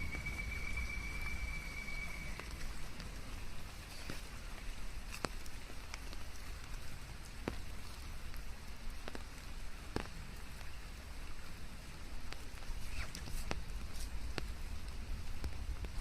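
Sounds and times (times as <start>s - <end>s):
loud single raindrops: 0.0s - 16.0s
rain hiss: 0.0s - 16.0s.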